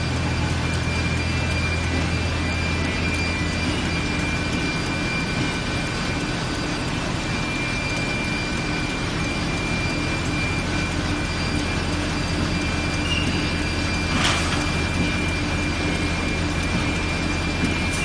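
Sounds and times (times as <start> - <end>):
paper machine droning: 0.0 - 18.0.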